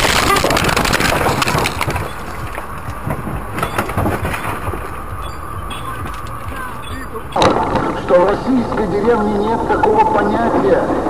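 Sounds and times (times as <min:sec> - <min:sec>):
debris cracking: 0:00.0 - 0:10.6
vehicle crash crunching: 0:00.0 - 0:11.0.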